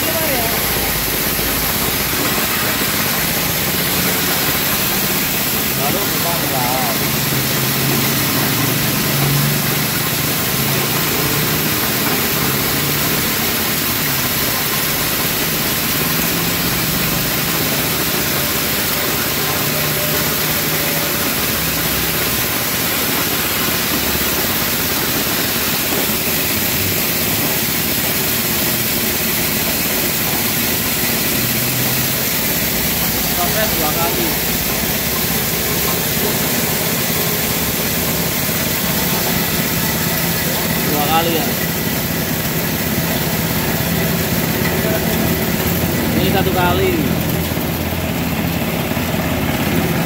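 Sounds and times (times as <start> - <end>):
coffee huller mechanical din: 0.0 - 50.0.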